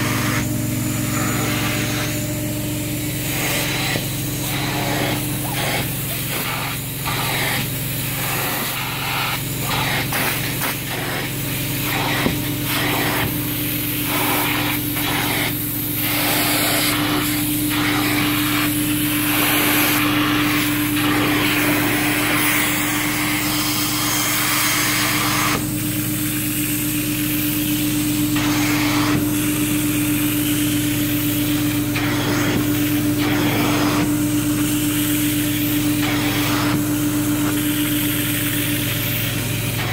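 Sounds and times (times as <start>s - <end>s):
steady machine hum: 0.0s - 39.9s
vacuum hiss: 0.0s - 39.9s.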